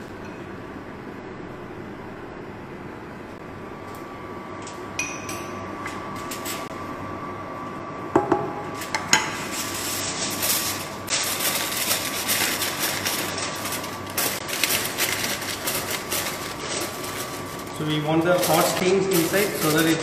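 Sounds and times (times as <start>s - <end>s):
rushing kitchen background: 0.0s - 20.0s.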